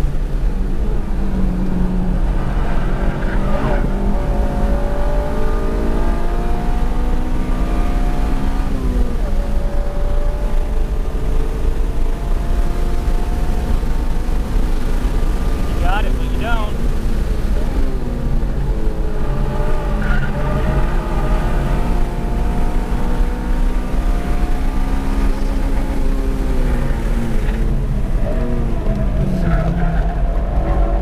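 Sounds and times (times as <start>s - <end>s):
car engine revving: 0.0s - 31.0s
road and tyre rumble: 0.0s - 31.0s.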